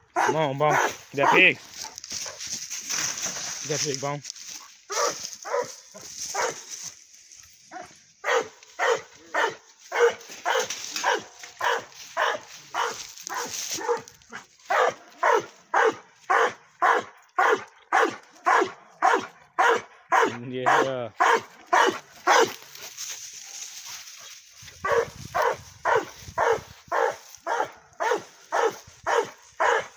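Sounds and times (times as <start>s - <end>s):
dog barking: 0.1s - 2.4s, 4.9s - 6.7s, 7.7s - 22.6s, 24.8s - 29.9s.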